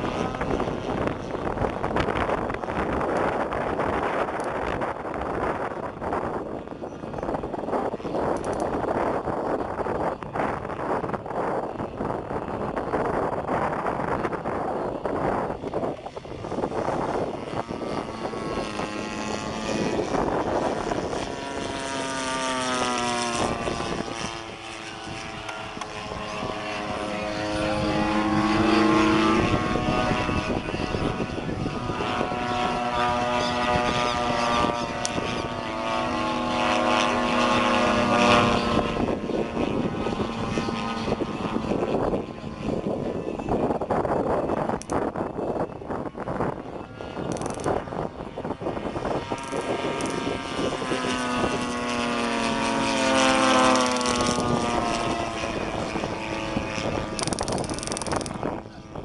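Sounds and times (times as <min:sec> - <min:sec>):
model airplane engines: 0:00.0 - 0:59.0.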